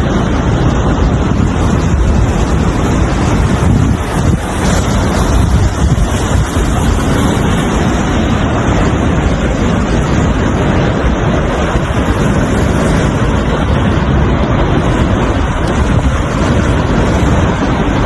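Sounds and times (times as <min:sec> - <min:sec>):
loud steady rushing noise: 0:00.0 - 0:18.0
wind buffeting microphone: 0:00.0 - 0:18.0.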